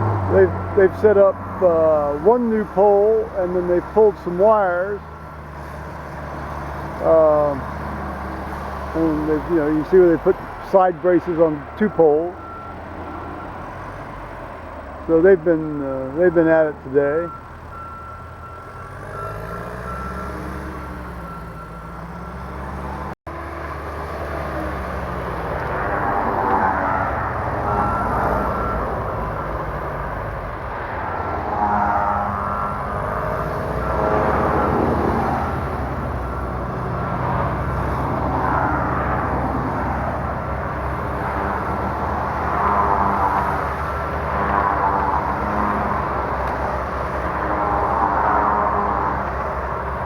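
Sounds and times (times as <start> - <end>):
bulldozer diesel engine running: 0.0 - 50.0.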